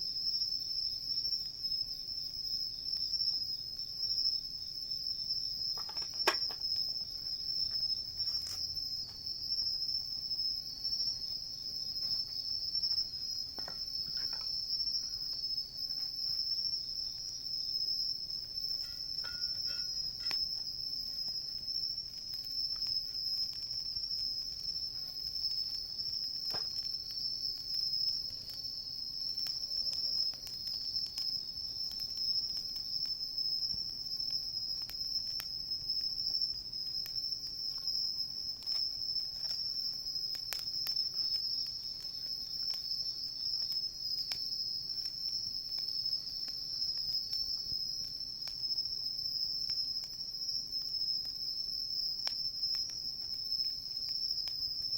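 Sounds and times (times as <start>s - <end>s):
insects trilling: 0.0s - 54.9s
campfire crackles: 0.1s - 54.9s.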